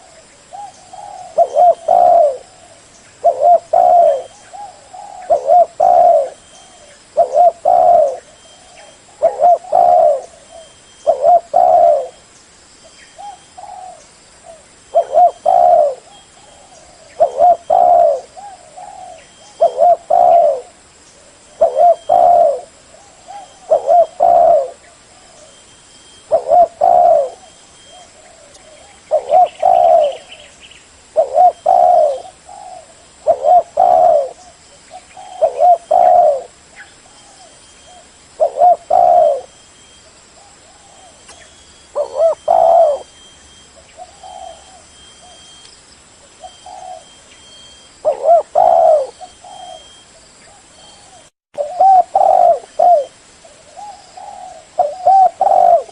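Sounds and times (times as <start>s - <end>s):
dove cooing: 0.0s - 12.2s, 13.2s - 30.5s, 31.1s - 39.6s, 40.4s - 45.6s, 46.3s - 55.9s.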